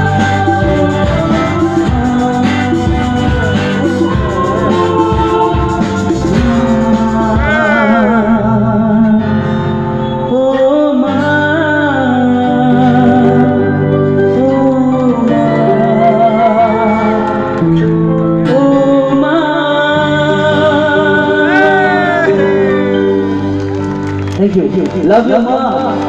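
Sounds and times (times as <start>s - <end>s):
instrumental accompaniment: 0.0s - 11.4s, 12.1s - 26.0s
person singing: 0.0s - 23.5s.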